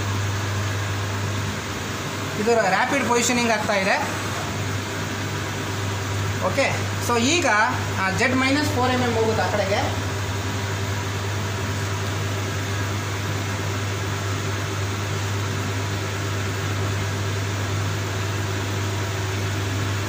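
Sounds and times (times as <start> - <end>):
lathe spindle humming and whirring: 0.0 - 20.0.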